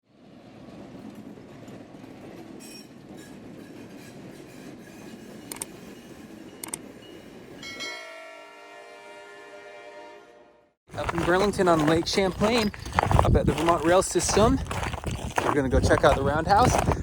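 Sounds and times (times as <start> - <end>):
train rumbling on rails: 0.1 - 8.0, 10.9 - 17.0.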